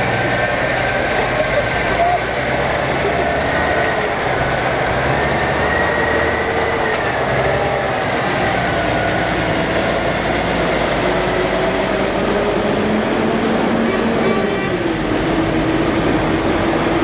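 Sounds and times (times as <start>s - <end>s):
diesel truck engines: 0.0s - 17.0s
whining tones rising and falling: 0.0s - 17.0s.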